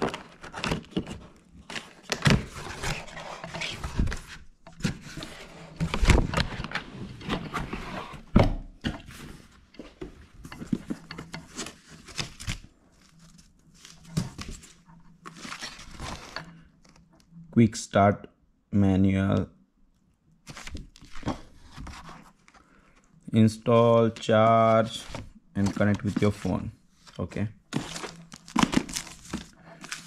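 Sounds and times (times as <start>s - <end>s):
cardboard scraping and rustling: 0.0s - 17.0s, 20.5s - 22.6s, 23.7s - 30.0s.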